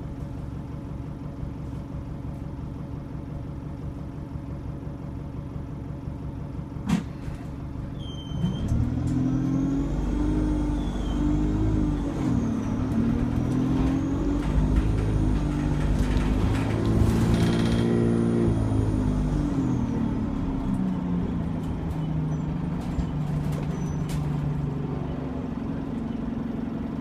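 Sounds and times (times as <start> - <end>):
bus diesel engine: 0.0 - 27.0.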